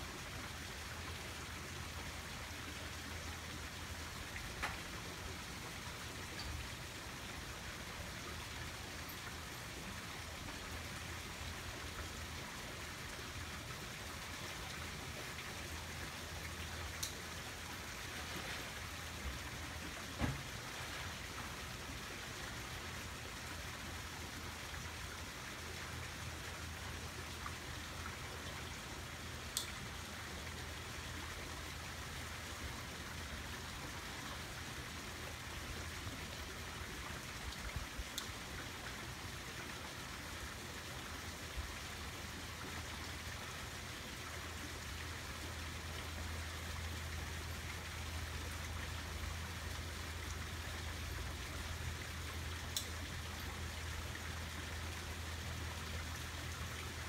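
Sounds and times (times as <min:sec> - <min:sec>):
outdoor background hiss: 0:00.0 - 0:57.0.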